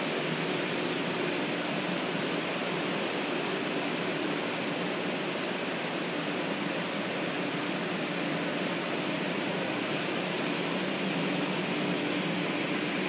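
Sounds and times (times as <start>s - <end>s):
train cooling fans humming: 0.0s - 13.0s.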